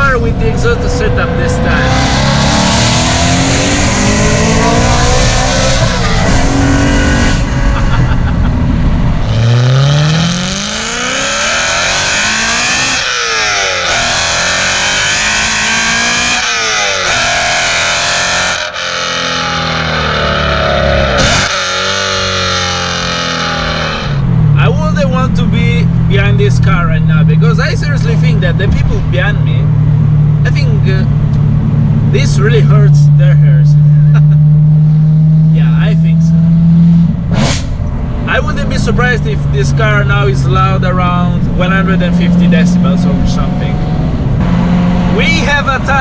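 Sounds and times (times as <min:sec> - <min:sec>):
car engine accelerating hard: 0:00.0 - 0:46.0.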